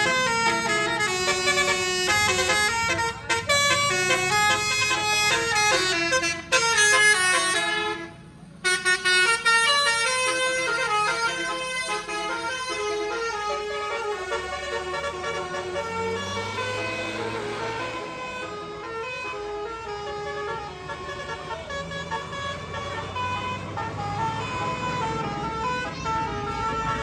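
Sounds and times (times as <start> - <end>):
bus engine running low: 0.0 - 27.0
multi-tone bus horn tune: 0.0 - 27.0.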